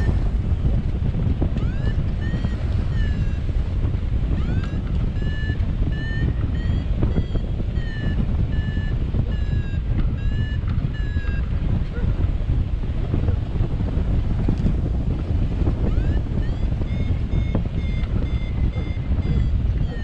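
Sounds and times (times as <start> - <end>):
variometer beeping: 0.0 - 20.0
wind rumble on microphone: 0.0 - 20.0.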